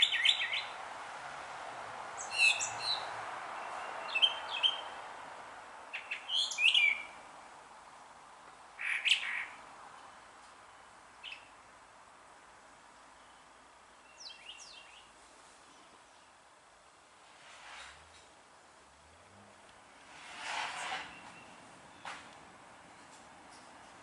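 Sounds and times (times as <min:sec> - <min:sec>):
background hiss: 0:00.0 - 0:24.0.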